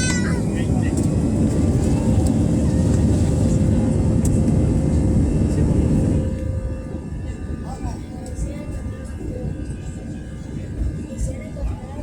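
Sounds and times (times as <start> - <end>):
jet engines and airflow rumble: 0.0 - 12.0.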